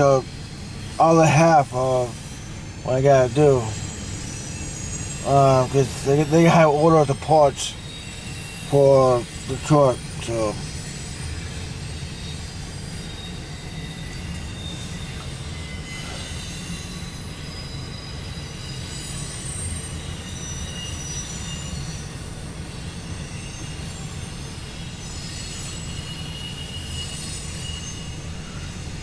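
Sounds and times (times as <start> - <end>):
freight train cars rumbling past: 0.0 - 29.0
high-pitched wheel squeals: 0.0 - 29.0.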